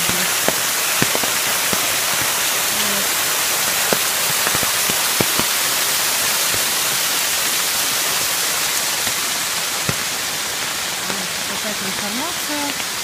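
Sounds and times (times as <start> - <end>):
water drips: 0.0 - 13.0
waterfall splashing into pool: 0.0 - 13.0.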